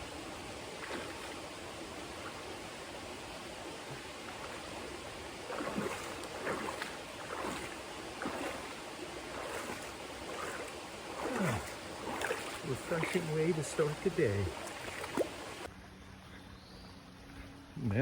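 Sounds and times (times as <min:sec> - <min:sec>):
stream water rushing: 0:00.0 - 0:15.7
water splashing with footsteps: 0:00.0 - 0:15.7.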